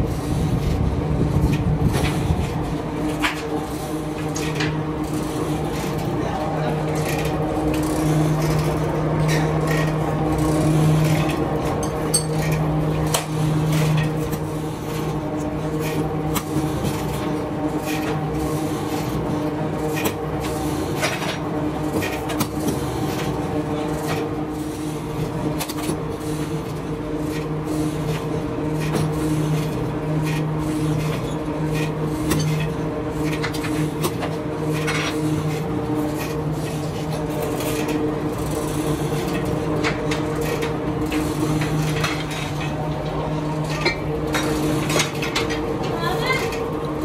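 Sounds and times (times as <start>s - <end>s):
machine hum: 0.0s - 47.0s.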